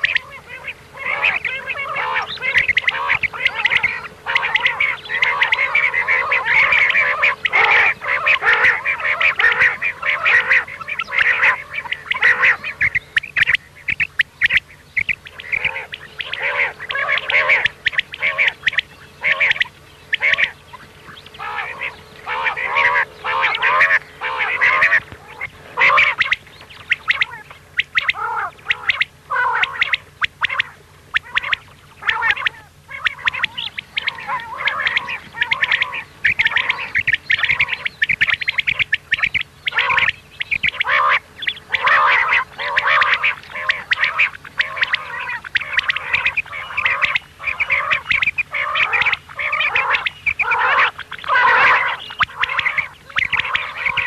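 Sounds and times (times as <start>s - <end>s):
faint steady hum: 0.0s - 54.0s
quail calls: 0.0s - 54.0s.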